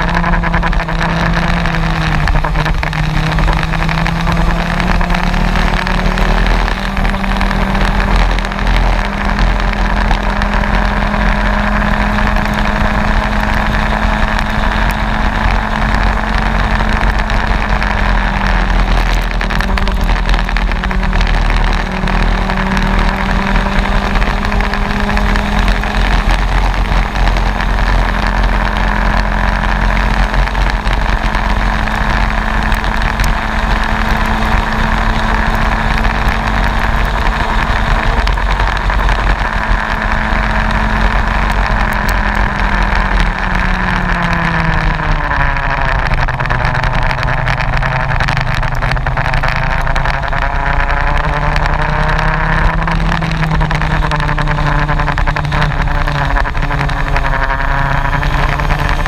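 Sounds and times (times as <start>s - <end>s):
kart engine running hard: 0.0s - 59.0s
wind and road rush: 0.0s - 59.0s.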